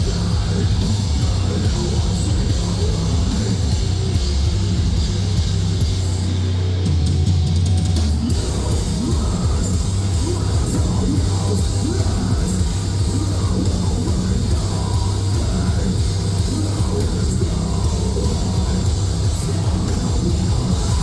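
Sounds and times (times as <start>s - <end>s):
metalcore band playing live: 0.0s - 21.0s.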